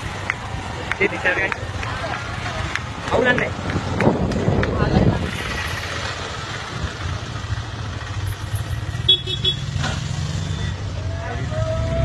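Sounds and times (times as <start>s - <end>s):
auto rickshaw engine running: 0.0s - 12.0s.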